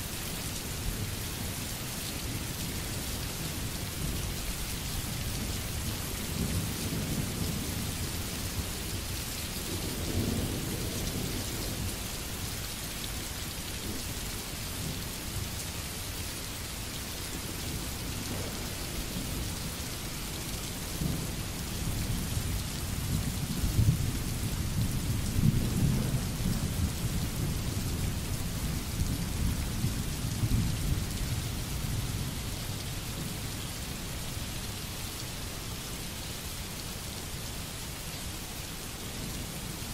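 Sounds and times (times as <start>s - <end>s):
rain splashing on pavement: 0.0s - 39.9s.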